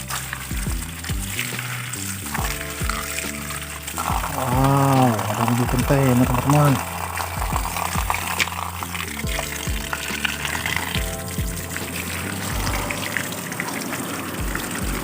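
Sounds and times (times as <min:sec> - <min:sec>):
background music with drum beat: 0:00.0 - 0:05.1, 0:05.7 - 0:13.1, 0:14.4 - 0:15.0
tap water running and splashing: 0:00.0 - 0:15.0.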